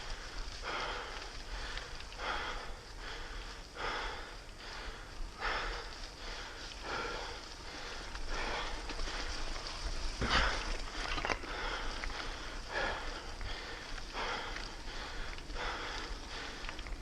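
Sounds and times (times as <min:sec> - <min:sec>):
person breathing hard: 0:00.0 - 0:17.0
steady low rumble: 0:00.0 - 0:17.0.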